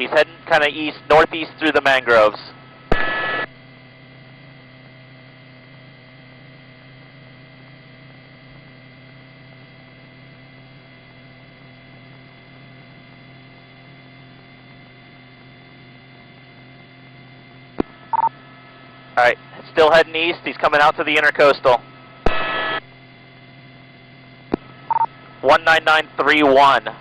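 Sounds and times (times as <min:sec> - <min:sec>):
faint high whine: 0:00.0 - 0:27.0
steady electrical hum: 0:00.0 - 0:27.0.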